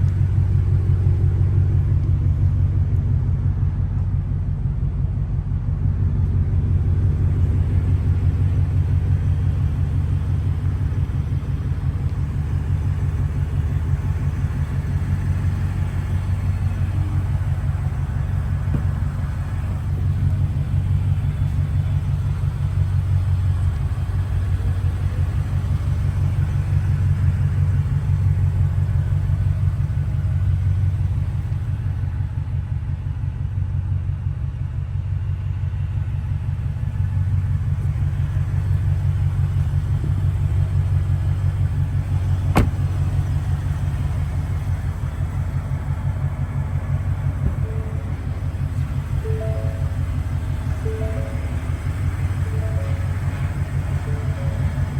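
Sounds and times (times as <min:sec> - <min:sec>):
engine exhaust rumble: 0:00.0 - 0:54.9.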